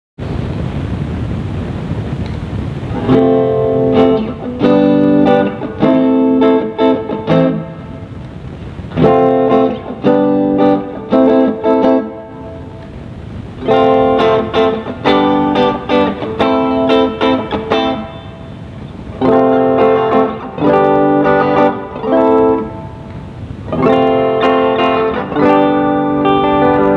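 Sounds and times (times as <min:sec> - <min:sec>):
steady hiss: 0:00.2 - 0:26.9
electric guitar playing: 0:02.8 - 0:26.9.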